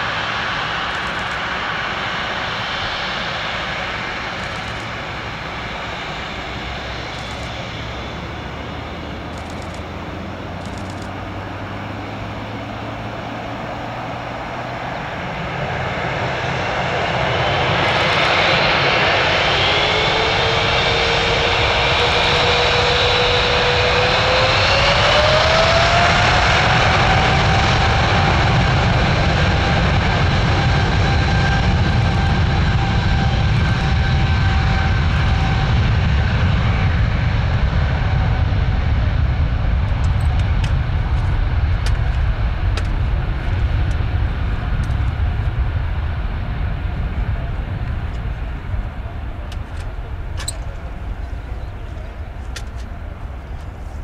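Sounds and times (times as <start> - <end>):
jet engine whine: 0.0 - 54.0
jet engines rumbling: 0.0 - 54.0.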